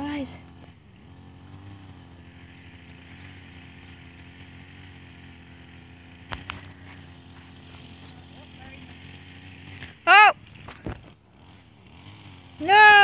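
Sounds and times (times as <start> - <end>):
high insect trill: 0.0 - 13.0
low mechanical hum: 0.0 - 13.0.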